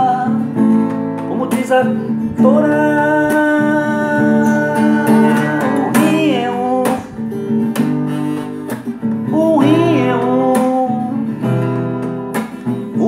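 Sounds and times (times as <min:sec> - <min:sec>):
person singing: 0:00.0 - 0:07.5, 0:09.1 - 0:12.1, 0:12.8 - 0:13.0
acoustic guitar strumming: 0:00.0 - 0:13.0.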